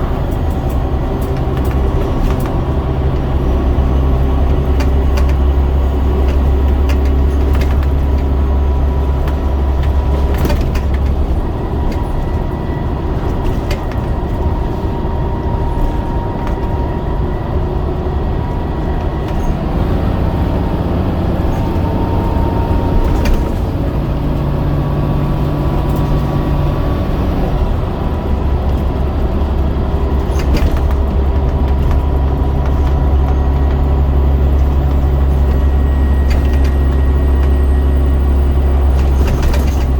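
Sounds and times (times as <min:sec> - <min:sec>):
bus body rattling and knocking: 0:00.0 - 0:39.9
bus diesel engine droning: 0:00.0 - 0:39.9.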